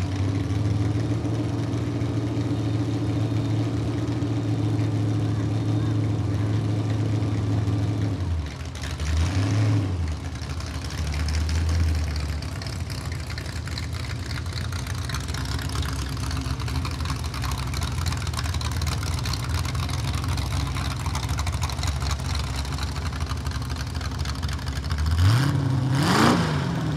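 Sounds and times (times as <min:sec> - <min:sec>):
tractor engine idling and revving: 0:00.0 - 0:26.9.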